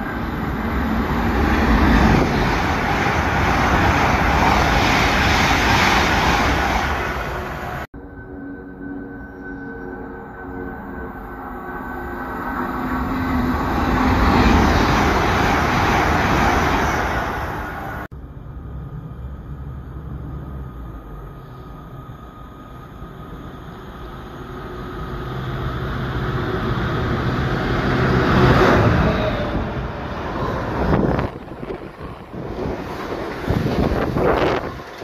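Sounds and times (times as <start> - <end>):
diesel locomotive engine drone: 0.0 - 35.0.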